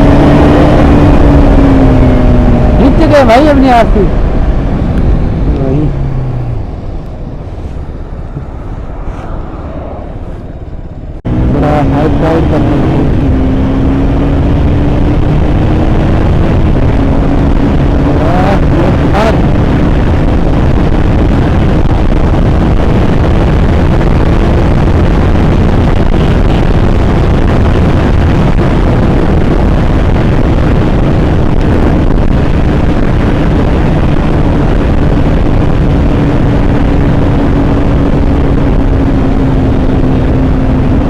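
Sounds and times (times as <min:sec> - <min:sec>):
motorcycle engine cruising: 0:00.0 - 0:41.0
wind noise on microphone: 0:00.0 - 0:41.0.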